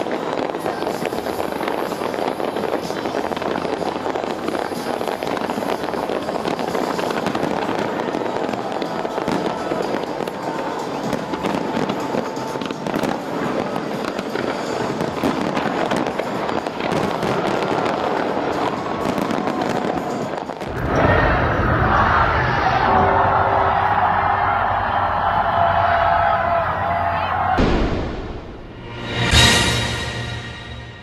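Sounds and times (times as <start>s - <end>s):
fireworks bangs and crackles: 0.0s - 23.8s, 27.4s - 30.0s
music playing: 0.0s - 31.0s.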